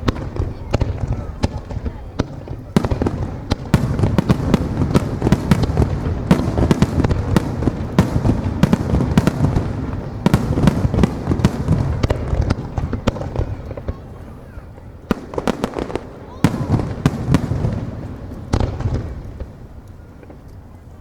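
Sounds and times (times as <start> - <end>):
fireworks bursting with sharp bangs: 0.0 - 20.7.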